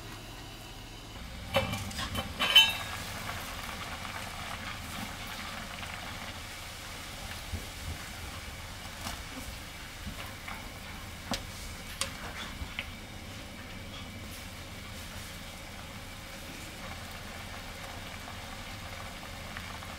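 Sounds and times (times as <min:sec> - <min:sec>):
soup bubbling at a rolling boil: 0:01.1 - 0:19.9.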